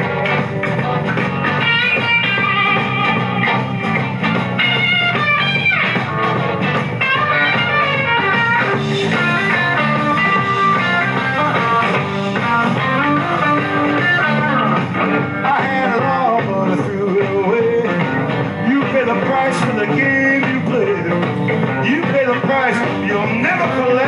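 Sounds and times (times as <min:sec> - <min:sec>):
blues rock band playing: 0:00.0 - 0:24.0
electric guitar lead bending notes: 0:00.0 - 0:24.0.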